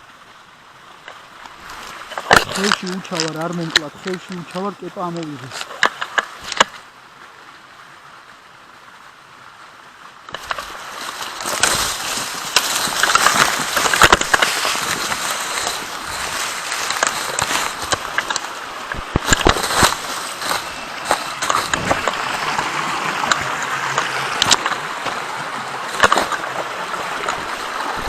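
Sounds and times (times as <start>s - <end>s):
person scrambling through brush: 1.6s - 6.7s, 10.3s - 28.0s.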